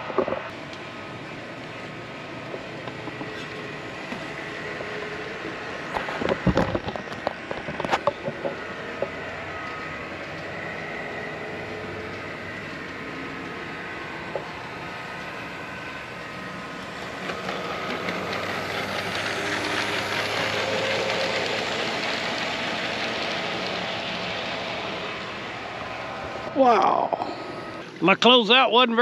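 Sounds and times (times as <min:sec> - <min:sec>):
model train motors whining: 0:00.0 - 0:29.0.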